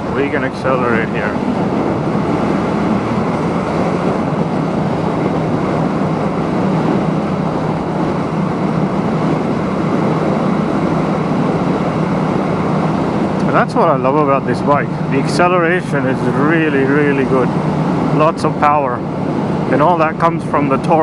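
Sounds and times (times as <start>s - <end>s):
motorcycle engine accelerating: 0.0s - 21.0s
wind rush: 0.0s - 21.0s.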